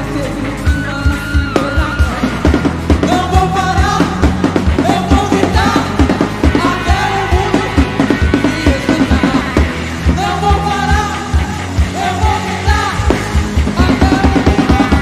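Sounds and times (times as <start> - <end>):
person singing lead vocal: 0.0 - 15.0
steady drum beat: 0.0 - 15.0
worship band playing: 0.0 - 15.0.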